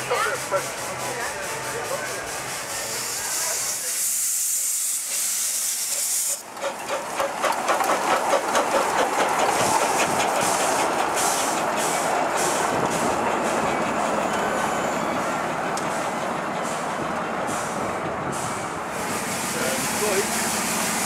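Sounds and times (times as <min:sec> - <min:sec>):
hissing steam: 0:00.0 - 0:06.8, 0:08.2 - 0:21.0
steam locomotive exhaust chuffs: 0:00.0 - 0:21.0
train rumbling past: 0:00.0 - 0:21.0.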